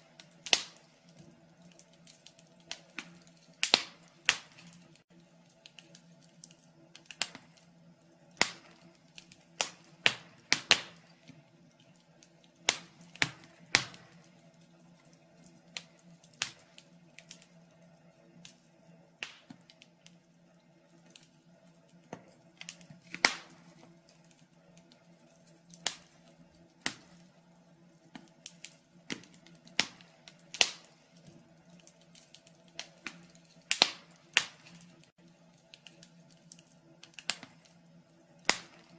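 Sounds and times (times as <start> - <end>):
fire crackling in a fireplace: 0.0 - 38.9.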